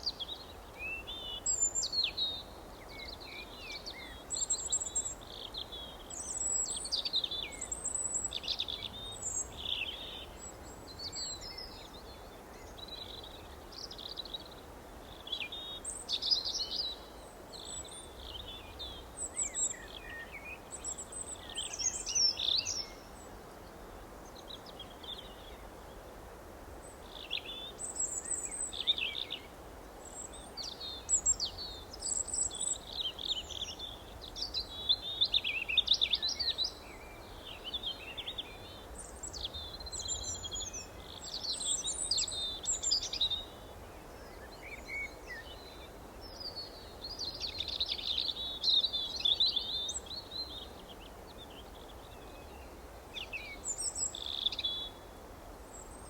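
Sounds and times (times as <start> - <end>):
faint background hiss: 0.0 - 56.0
songbirds chirping: 0.0 - 56.0.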